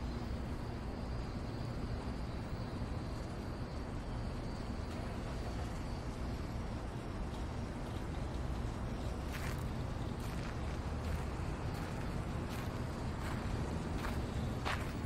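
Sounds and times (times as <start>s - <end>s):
distant road traffic rumble: 0.0s - 15.0s
faint high insect-like whine: 0.0s - 15.0s.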